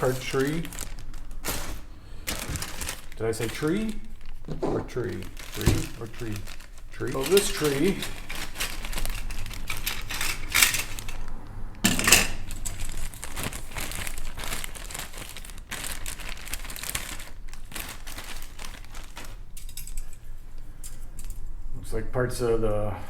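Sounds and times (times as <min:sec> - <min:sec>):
plastic bag crinkling: 0:00.0 - 0:20.2.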